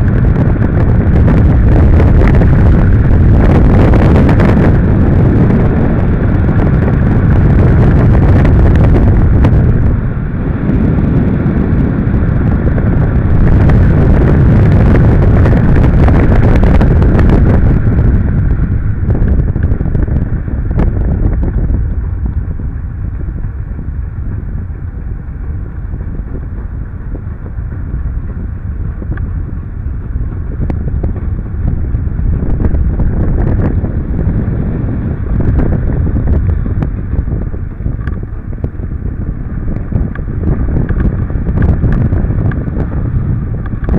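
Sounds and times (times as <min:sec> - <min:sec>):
wind rumbling over microphone: 0:00.0 - 0:43.9.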